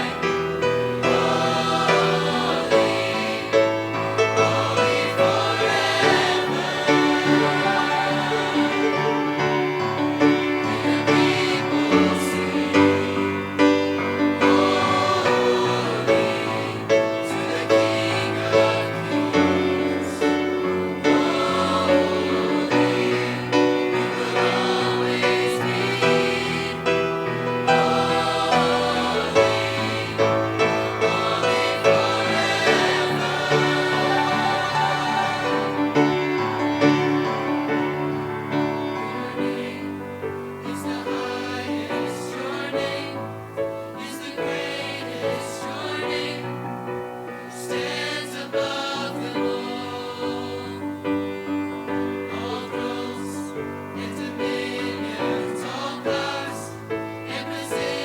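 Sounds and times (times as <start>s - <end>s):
choir singing gospel in harmony: 0.0s - 58.0s.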